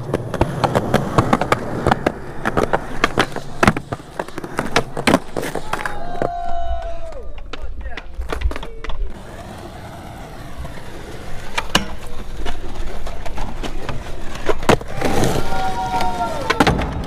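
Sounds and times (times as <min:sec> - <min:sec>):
skateboard clacking: 0:00.0 - 0:17.0
skateboard wheels rolling on pavement: 0:00.0 - 0:17.0.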